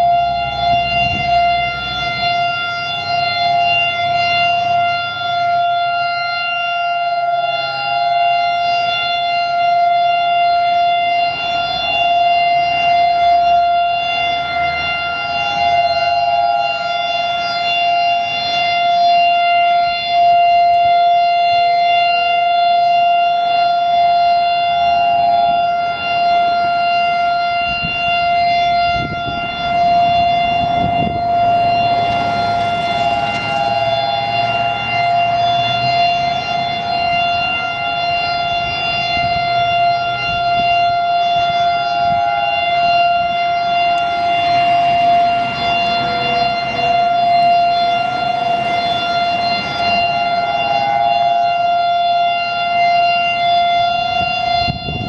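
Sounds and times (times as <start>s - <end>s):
higher siren tone: 0.0s - 55.0s
warning siren steady tone: 0.0s - 55.0s.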